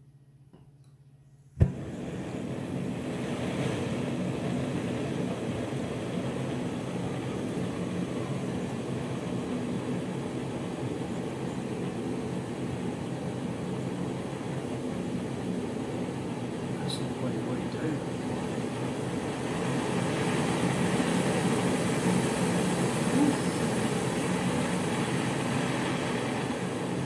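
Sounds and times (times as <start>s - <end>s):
gas stove burner hissing: 1.5s - 27.0s.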